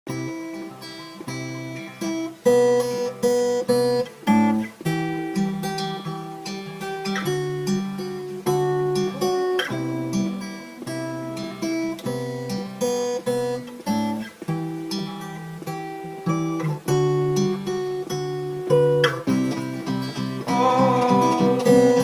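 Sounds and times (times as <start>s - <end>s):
acoustic guitar strumming chords: 0.1s - 22.0s.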